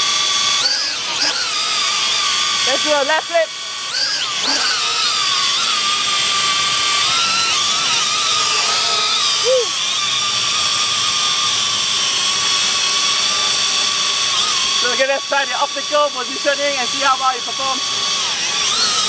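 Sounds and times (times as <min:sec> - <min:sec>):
quadcopter propellers whining: 0:00.0 - 0:19.0.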